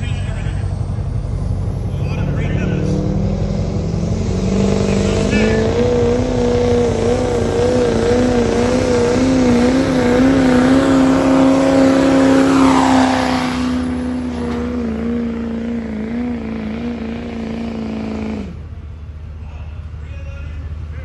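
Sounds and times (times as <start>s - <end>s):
diesel truck engine at full throttle: 0.0s - 21.0s.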